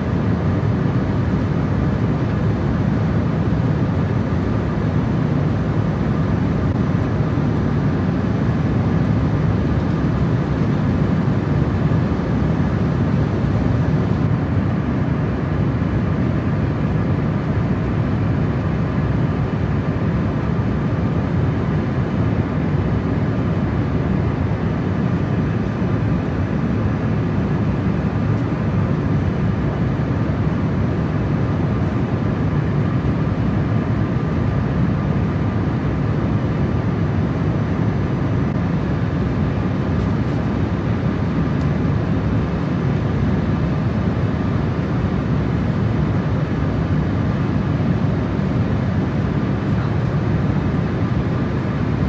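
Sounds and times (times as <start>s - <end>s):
airliner cabin engine and air rush: 0.0s - 52.0s.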